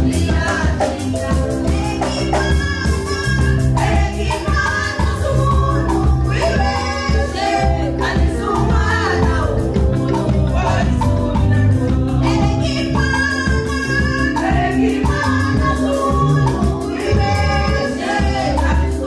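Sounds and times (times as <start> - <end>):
amplified backing music with beat: 0.0 - 19.0
women's choir singing gospel: 0.0 - 19.0.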